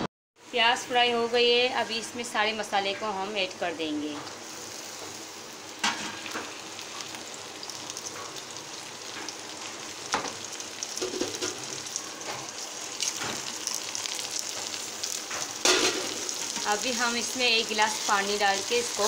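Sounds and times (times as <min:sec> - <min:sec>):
onions sizzling in oil: 0:00.5 - 0:19.0.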